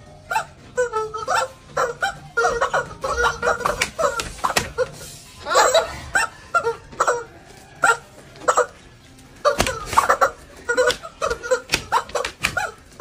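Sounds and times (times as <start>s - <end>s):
rubber chicken squawks: 0.2s - 13.0s.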